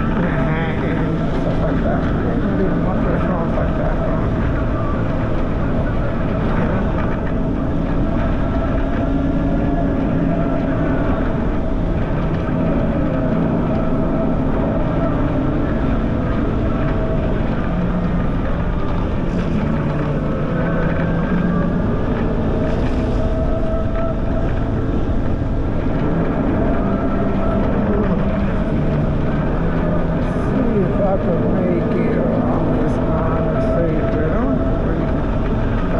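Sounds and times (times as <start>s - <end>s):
faint humming tones: 0.0s - 35.9s
steady rumble: 0.0s - 35.9s
wind buffeting microphone: 0.0s - 35.9s.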